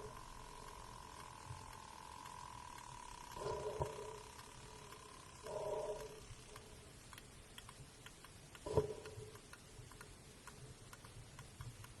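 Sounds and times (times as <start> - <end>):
whale echolocation clicks: 0.0 - 12.0.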